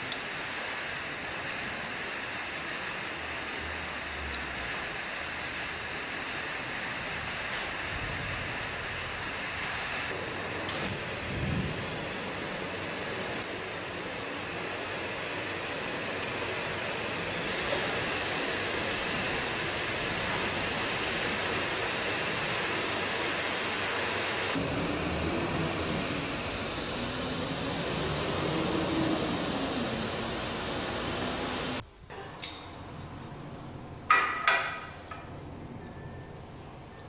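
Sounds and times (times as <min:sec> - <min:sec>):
welding arc hissing and buzzing: 0:00.0 - 0:31.8.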